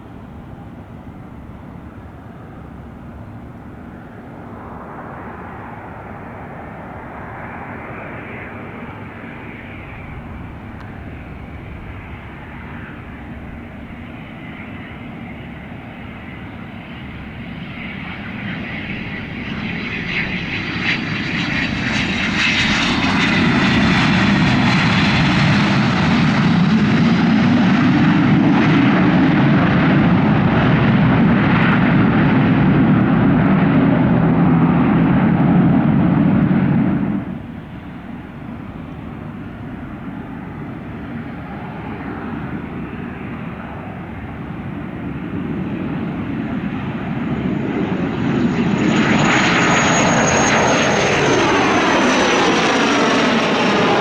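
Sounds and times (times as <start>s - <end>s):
airplane engines rumbling: 0.0s - 54.0s
high engine whine: 0.0s - 54.0s.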